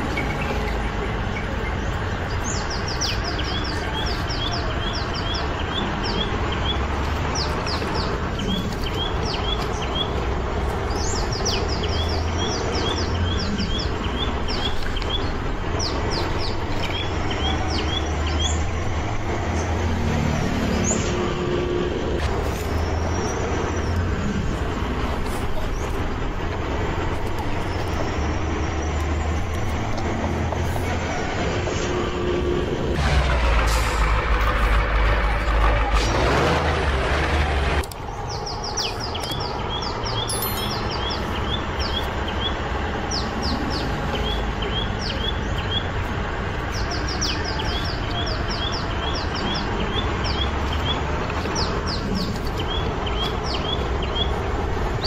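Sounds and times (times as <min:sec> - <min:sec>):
small birds chirping: 0:00.0 - 0:32.1, 0:37.4 - 0:55.0.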